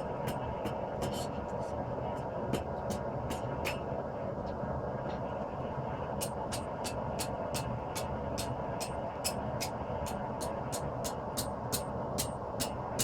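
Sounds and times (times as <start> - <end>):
forge burner roaring: 0.0 - 13.0.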